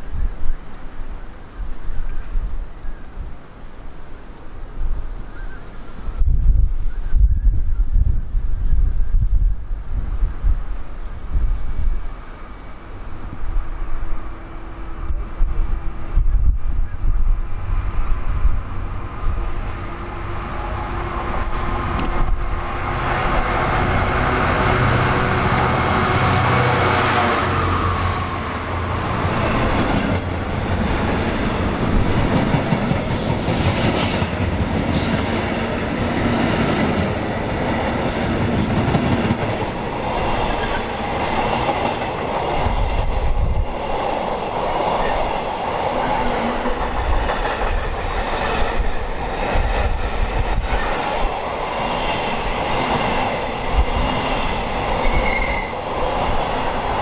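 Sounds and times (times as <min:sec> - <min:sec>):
wind on microphone: 0:00.0 - 0:03.4, 0:04.6 - 0:57.0
train passing at speed: 0:08.2 - 0:57.0.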